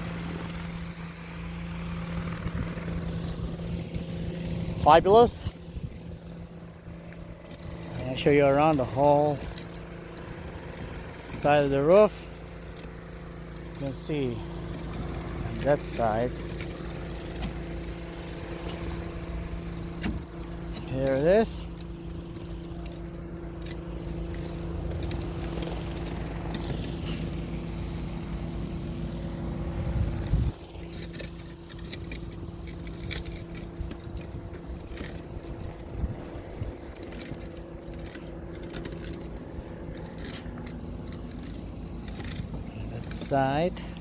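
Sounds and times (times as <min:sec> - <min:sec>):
engine humming: 0:00.0 - 0:44.0.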